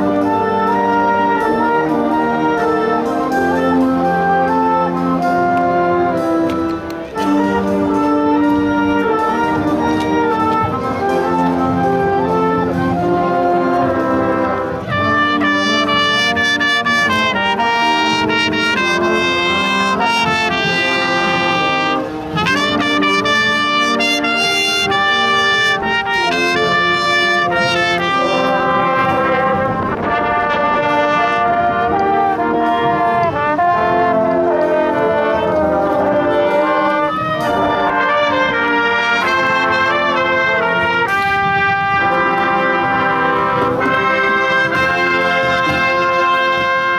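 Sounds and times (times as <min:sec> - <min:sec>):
marching band playing: 0:00.0 - 0:46.9.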